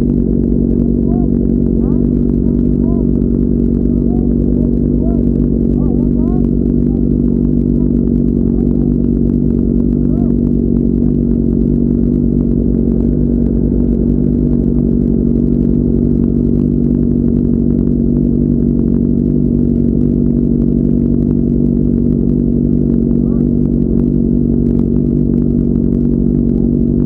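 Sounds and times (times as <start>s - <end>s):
motorcycle engine cruising: 0.0s - 27.0s.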